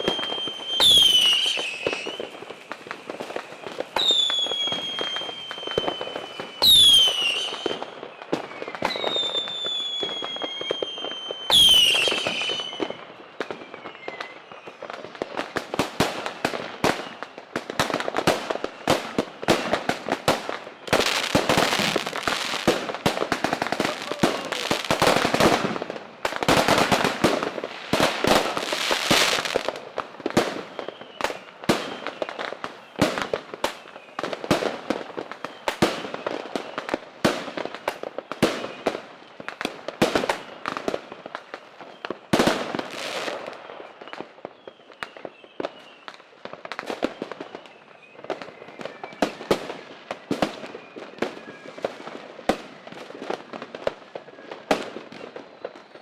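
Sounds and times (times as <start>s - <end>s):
fireworks cracking and popping: 0.0s - 56.0s.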